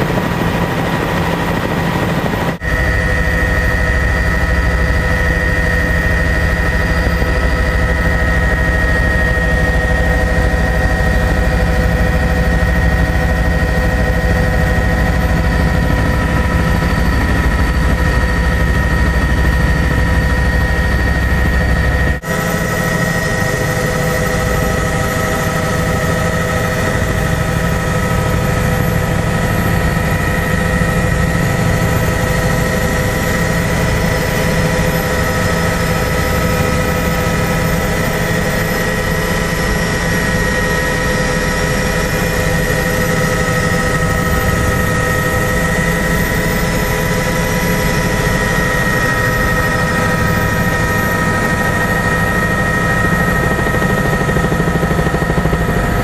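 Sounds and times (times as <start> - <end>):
helicopter rotor and engine rumble: 0.0 - 56.0
high whine: 0.0 - 56.0.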